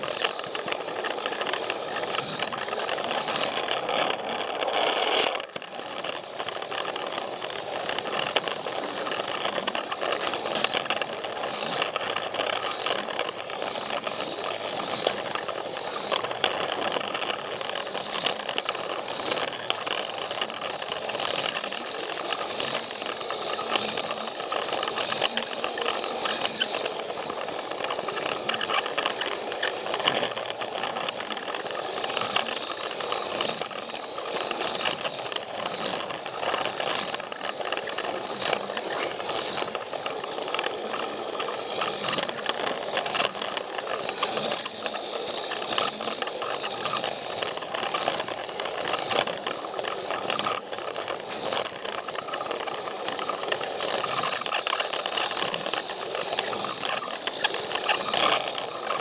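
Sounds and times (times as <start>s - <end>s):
toy train motor whirring: 0.0s - 59.0s
wheels rattling on plastic track: 0.0s - 59.0s.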